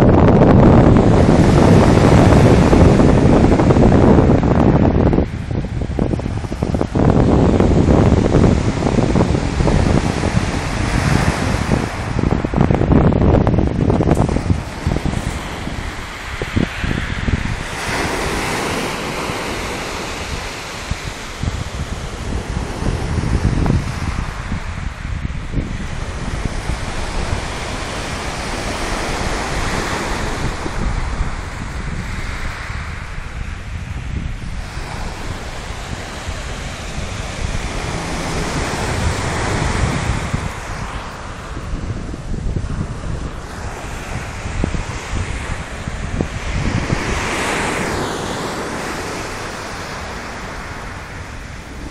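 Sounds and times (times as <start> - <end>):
waves washing on shingle beach: 0.0 - 51.9
wind buffeting microphone: 0.0 - 51.9.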